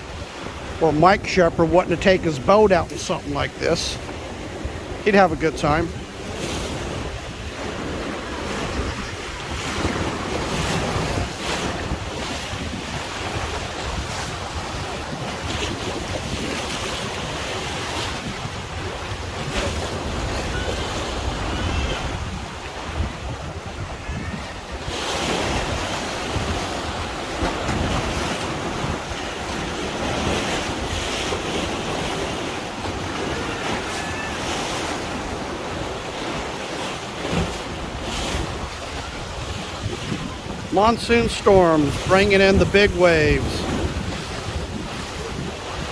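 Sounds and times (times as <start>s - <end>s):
waves breaking: 0.0s - 45.9s
wind buffeting microphone: 5.9s - 36.6s, 37.2s - 40.7s, 42.0s - 45.9s.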